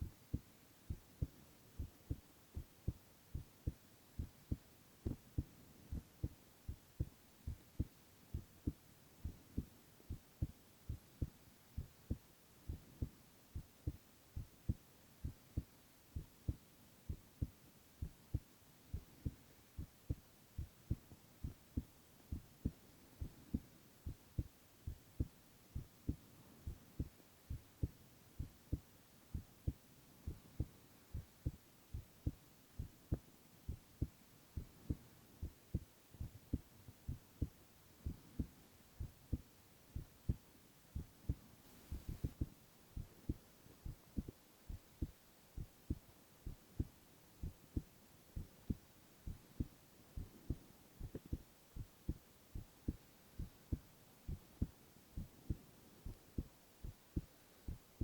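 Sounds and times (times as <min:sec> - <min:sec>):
heartbeat thumps: 0:00.0 - 0:40.4, 0:41.0 - 0:58.0
faint hiss: 0:00.0 - 0:58.0.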